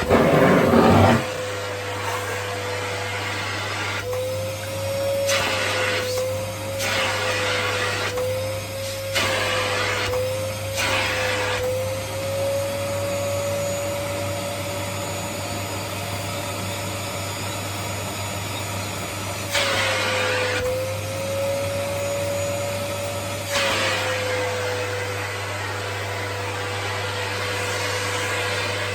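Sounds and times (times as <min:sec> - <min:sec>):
vacuum cleaner whine: 0:00.0 - 0:28.9.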